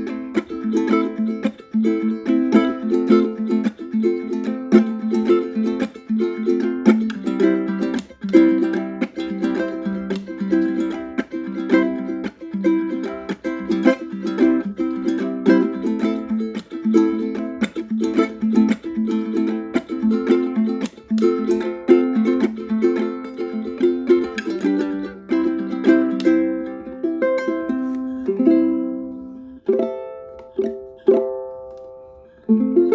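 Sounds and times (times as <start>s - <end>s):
ukulele plucked tune: 0.0s - 32.9s.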